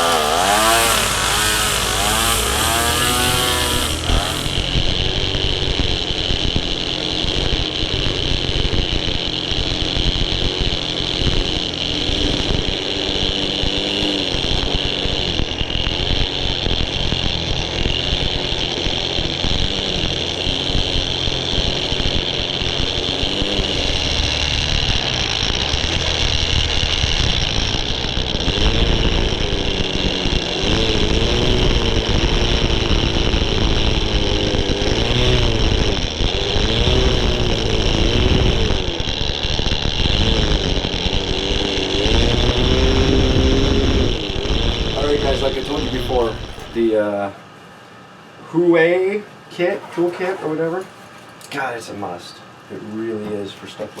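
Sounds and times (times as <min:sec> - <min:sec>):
string trimmer engine running: 0:00.0 - 0:47.3.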